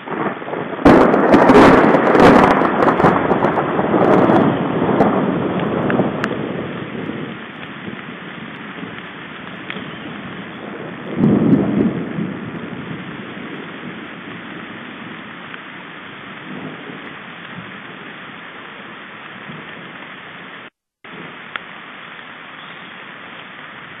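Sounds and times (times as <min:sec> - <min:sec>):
rain falling on forest: 0:00.0 - 0:24.0.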